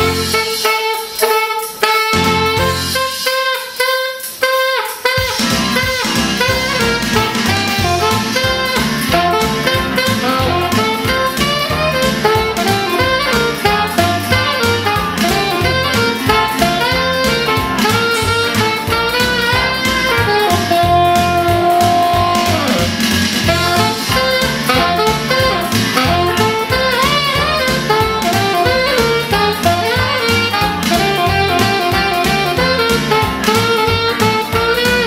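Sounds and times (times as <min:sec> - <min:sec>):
backing accompaniment with bass line: 0:00.0 - 0:35.0
saxophone jazz melody: 0:00.0 - 0:35.0.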